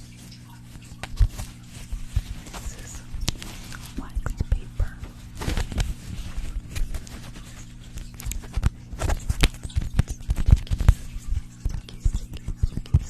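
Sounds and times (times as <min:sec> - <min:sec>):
steady low hum: 0:00.0 - 0:13.0
objects tapping and clicking: 0:01.0 - 0:13.0.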